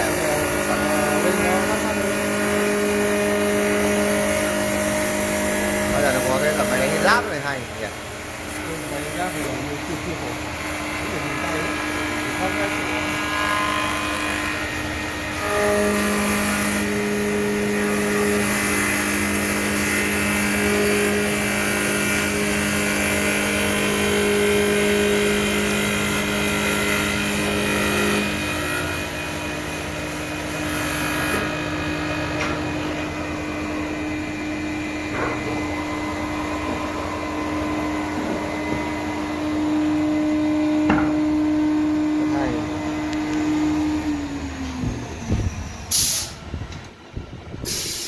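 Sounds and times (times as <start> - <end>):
lathe motor hum: 0.0 - 45.9.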